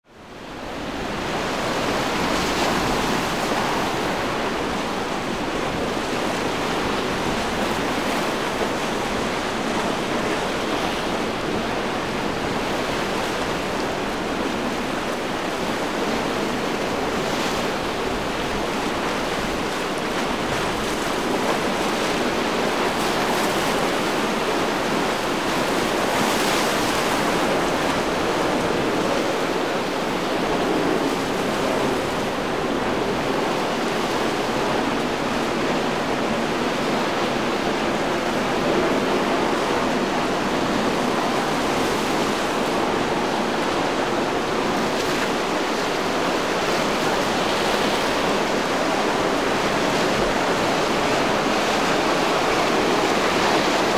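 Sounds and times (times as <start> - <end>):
breaking waves and surf: 0.1 - 53.9.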